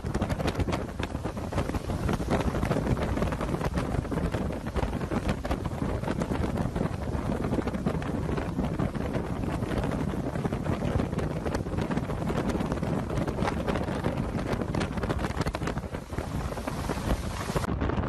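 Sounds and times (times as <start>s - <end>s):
storm wind blasting microphone: 0.0s - 18.0s.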